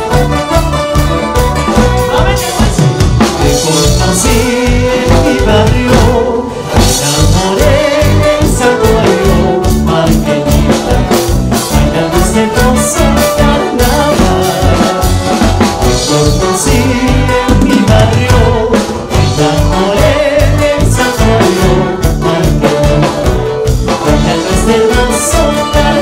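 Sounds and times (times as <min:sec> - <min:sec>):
live band playing dance music: 0:00.0 - 0:26.0.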